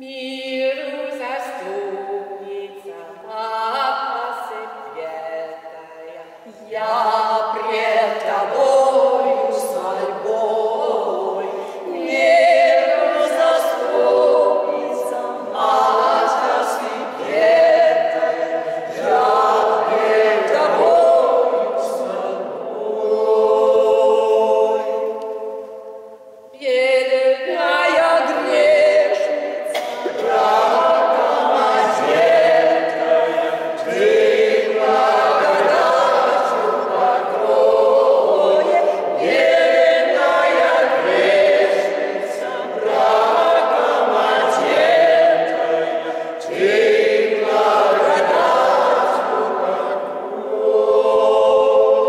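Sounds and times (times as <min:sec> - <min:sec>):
mixed choir singing a cappella: 0:00.0 - 0:52.0.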